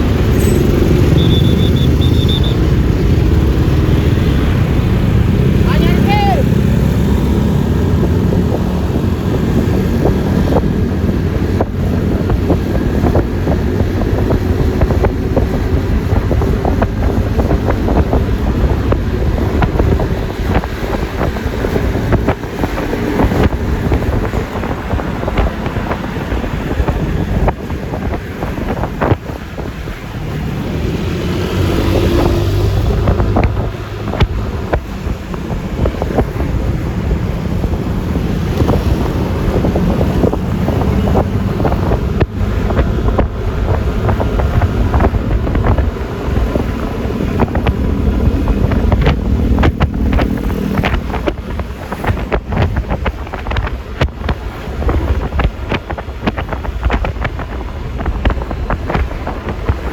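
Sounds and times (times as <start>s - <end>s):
scooter road noise: 0.0s - 59.9s
wind buffeting microphone: 0.0s - 59.9s.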